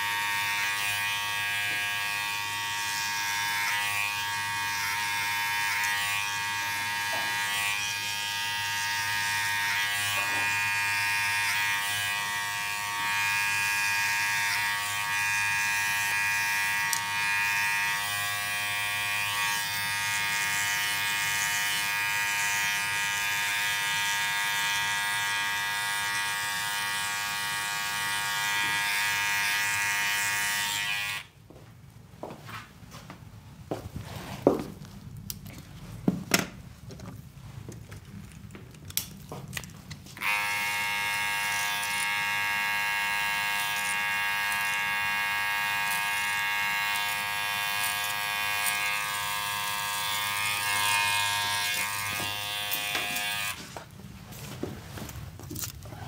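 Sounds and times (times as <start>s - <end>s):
electric hair clippers buzzing: 0.0s - 31.4s, 40.1s - 53.8s.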